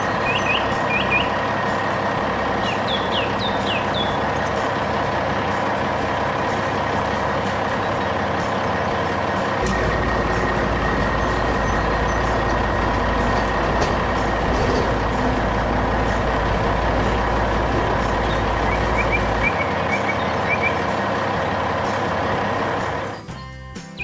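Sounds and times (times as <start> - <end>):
heavy truck engine running: 0.0 - 23.4.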